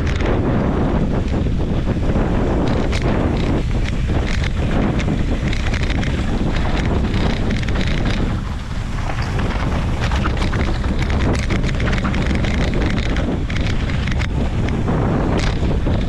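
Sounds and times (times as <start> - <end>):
bike clicking and clattering: 0.0 - 16.0
wind buffeting microphone: 0.0 - 16.0
tyres crunching on dirt and rock: 2.1 - 16.0.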